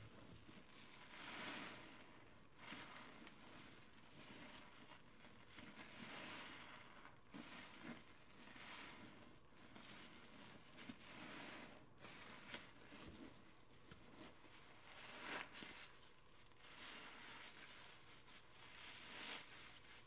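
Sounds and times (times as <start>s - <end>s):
soapy sponge squishing: 0.1s - 20.0s.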